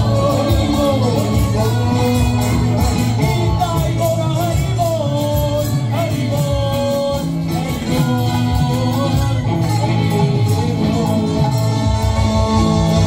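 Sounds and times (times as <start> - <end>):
hand drums: 0.0 - 13.0.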